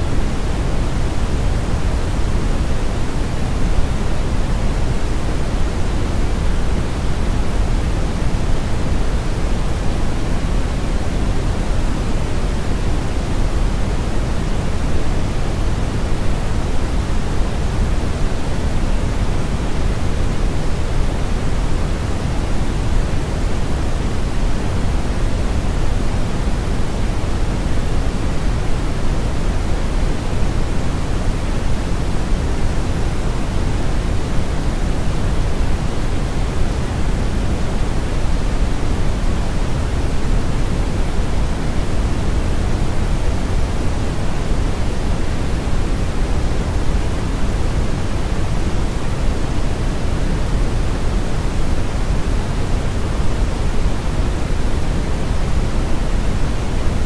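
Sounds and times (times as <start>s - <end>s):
brown noise: 0.0s - 57.0s.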